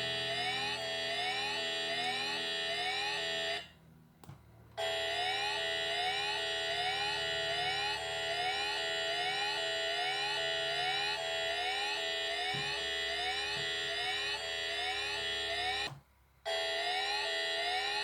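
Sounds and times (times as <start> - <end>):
emergency alert alarm tone: 0.0 - 3.7, 4.8 - 15.9, 16.5 - 18.0.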